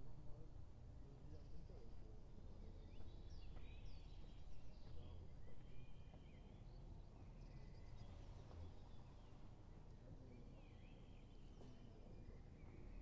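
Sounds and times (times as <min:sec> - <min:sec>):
faint songbirds chirping: 0:00.1 - 0:13.0.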